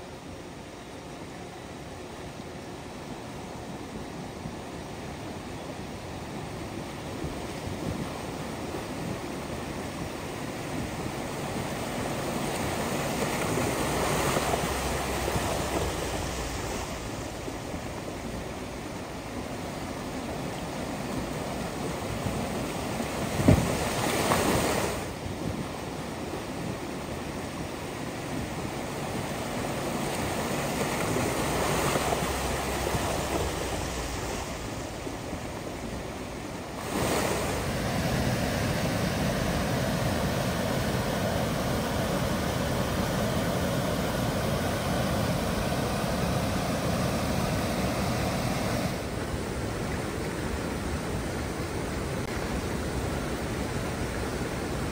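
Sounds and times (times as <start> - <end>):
creek water rushing: 0.0 - 54.9.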